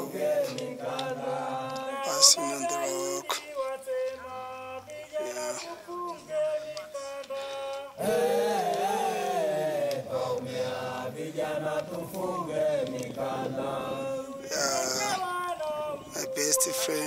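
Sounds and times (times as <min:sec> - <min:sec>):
several voices singing a song: 0:00.0 - 0:17.0.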